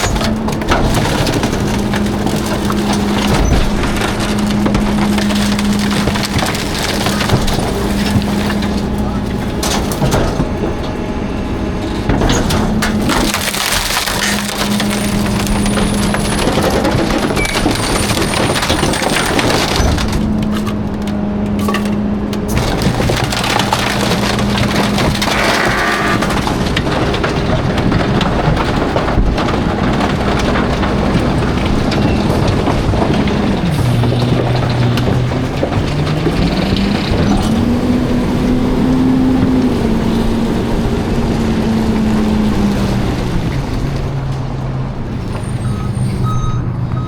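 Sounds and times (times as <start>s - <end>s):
compactor crushing trash: 0.0s - 47.0s
truck engine and hydraulics hum: 0.0s - 47.0s.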